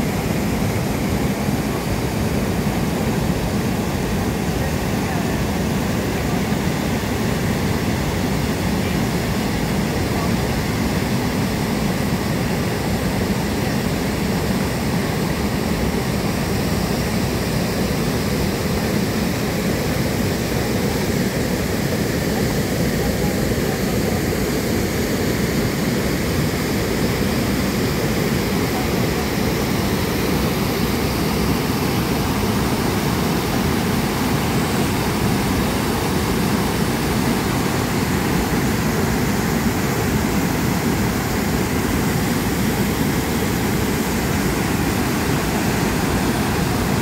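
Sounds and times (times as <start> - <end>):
waterfall rushing over rocks: 0.0 - 47.0.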